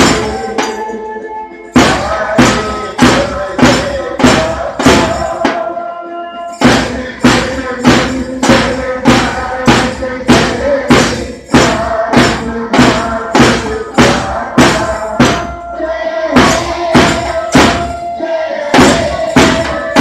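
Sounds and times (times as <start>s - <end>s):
drum beating a march: 0.0s - 0.8s, 1.7s - 5.8s, 6.5s - 20.0s.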